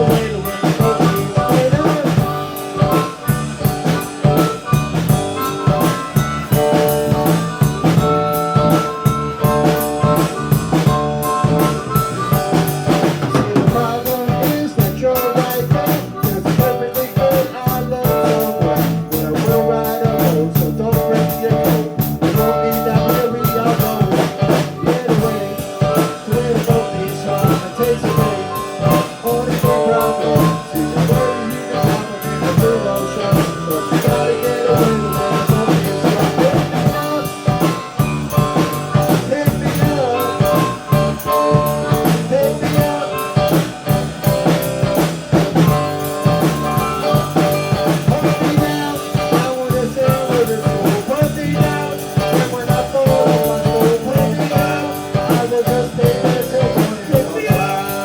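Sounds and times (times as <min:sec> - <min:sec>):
drum kit beat: 0:00.0 - 0:58.0
guitars: 0:00.0 - 0:58.0
live band playing country song: 0:00.0 - 0:58.0.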